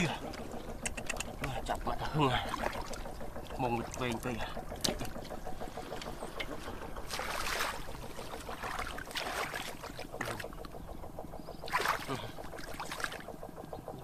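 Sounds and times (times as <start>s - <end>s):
fast even pulsing: 0.0s - 14.0s
water splashing and sloshing: 0.0s - 14.0s.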